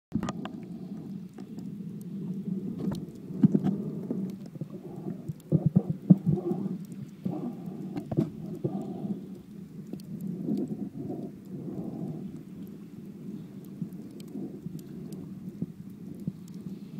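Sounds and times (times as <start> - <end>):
muffled water sloshing: 0.1 - 16.9.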